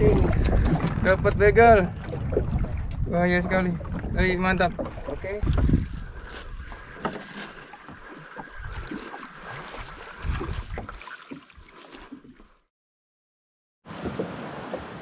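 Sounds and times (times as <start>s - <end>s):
water: 0.0s - 12.7s, 13.9s - 15.0s
wind: 0.0s - 12.7s, 13.9s - 15.0s.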